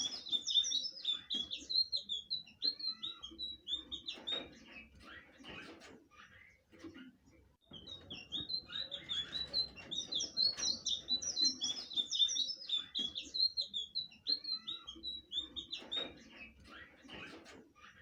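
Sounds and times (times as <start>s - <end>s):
bird twittering song: 0.0s - 6.7s, 7.3s - 18.0s.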